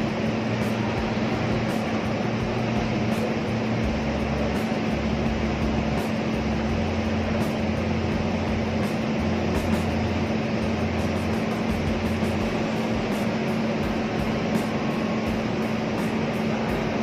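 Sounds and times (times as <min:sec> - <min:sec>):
mains drone: 0:00.0 - 0:17.0
ventilation fans rushing: 0:00.0 - 0:17.0.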